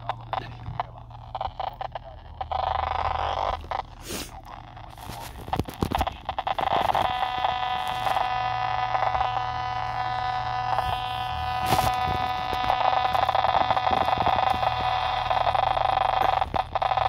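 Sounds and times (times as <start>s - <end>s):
analog tv sync buzz: 0.0s - 17.0s
short crackle: 0.0s - 17.0s.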